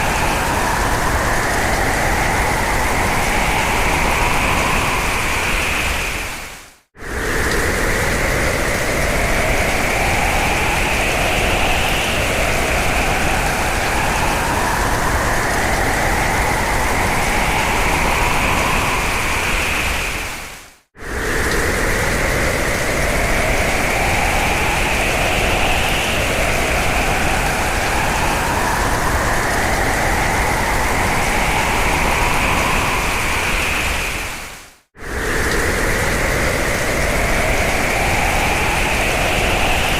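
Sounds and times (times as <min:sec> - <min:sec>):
howling hurricane wind: 0:00.0 - 0:39.9.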